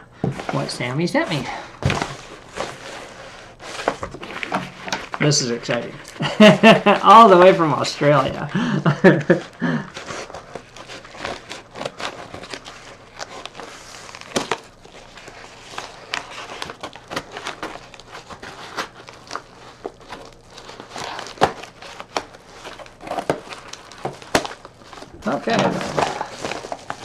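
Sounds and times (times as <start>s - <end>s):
padded bag crinkling: 0.3s - 27.0s.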